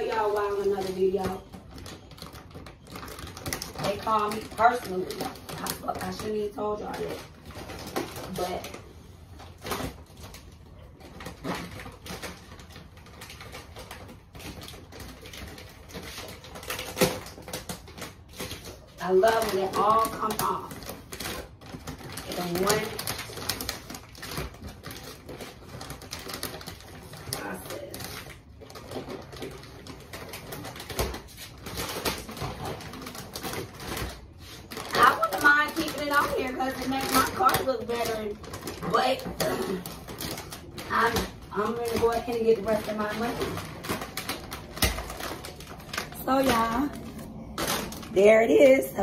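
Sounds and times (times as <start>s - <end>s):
vinyl wrap peeling: 0.0s - 49.0s.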